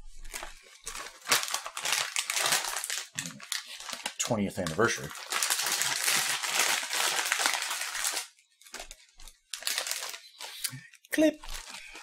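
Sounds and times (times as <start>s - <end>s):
plastic snack bag crinkling: 0.0s - 12.0s.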